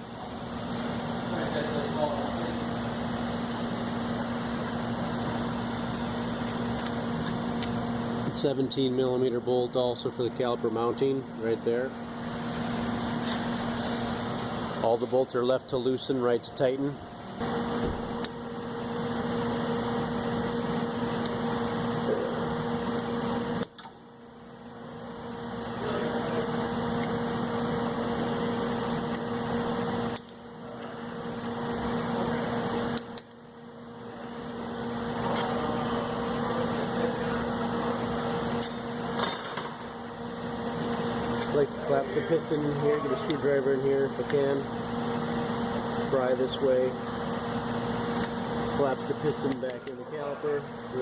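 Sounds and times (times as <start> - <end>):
machine hum: 0.0 - 51.0.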